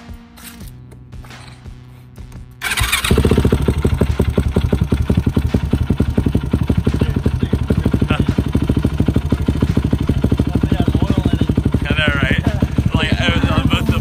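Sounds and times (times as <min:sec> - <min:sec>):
quad engine starting and idling: 0:02.6 - 0:14.0.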